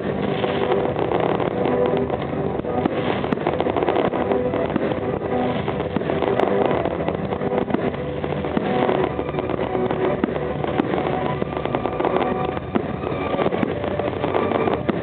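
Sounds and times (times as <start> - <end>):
continuous rumble: 0.0 - 15.0
fireworks bursting and crackling: 0.0 - 15.0.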